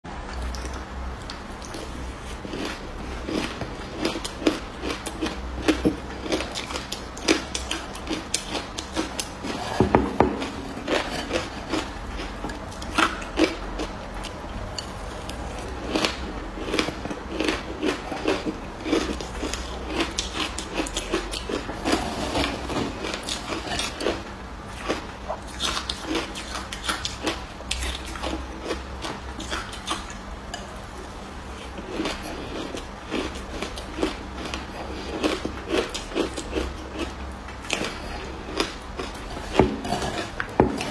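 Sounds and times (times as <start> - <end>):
person chewing ice crunches: 0.3 - 30.8, 31.5 - 40.9.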